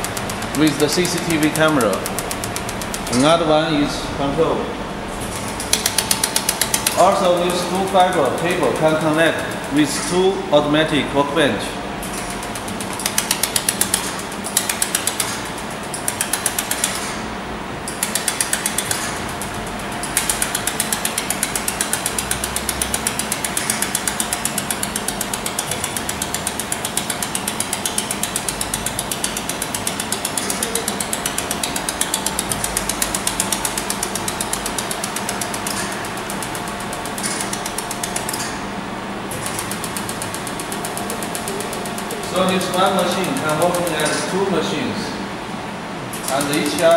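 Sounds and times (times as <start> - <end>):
laser welder sharp clicks: 0.0 - 3.3, 5.2 - 10.1, 12.0 - 17.3, 17.9 - 38.6, 39.3 - 44.3, 46.1 - 46.9.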